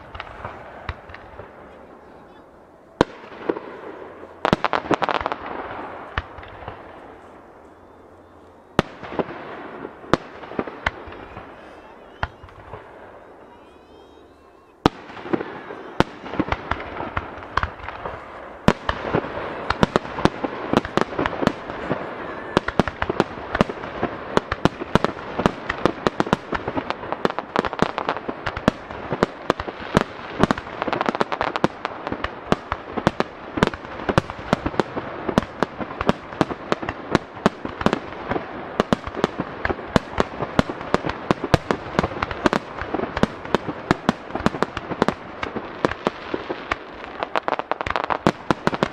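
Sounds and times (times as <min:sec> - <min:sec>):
fireworks bursting: 0:00.0 - 0:48.9
fireworks crackle: 0:00.0 - 0:48.9.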